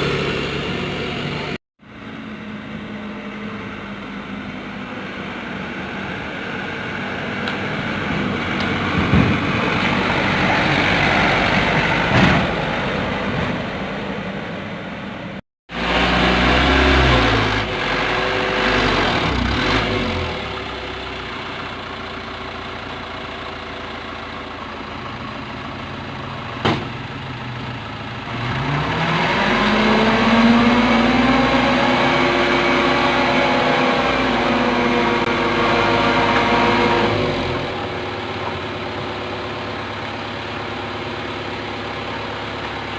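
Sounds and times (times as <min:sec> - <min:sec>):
large truck engines running: 0:00.0 - 0:42.9.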